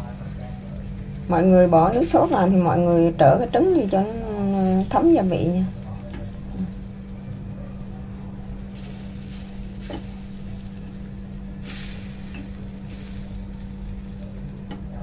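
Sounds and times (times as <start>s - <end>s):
low hum: 0.0s - 15.0s
sauce sizzling: 0.9s - 15.0s.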